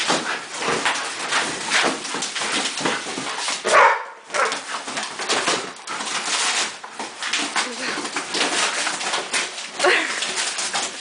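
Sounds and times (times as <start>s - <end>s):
dogs tearing cardboard: 0.0s - 11.0s.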